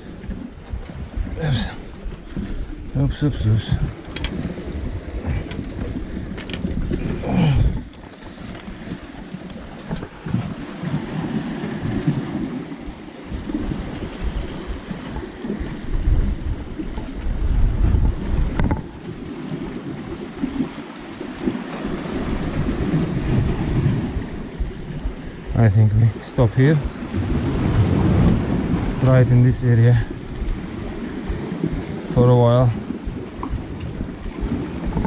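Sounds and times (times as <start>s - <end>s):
sea surf washing on rocks: 0.0s - 35.0s
wind buffeting microphone: 0.0s - 35.0s.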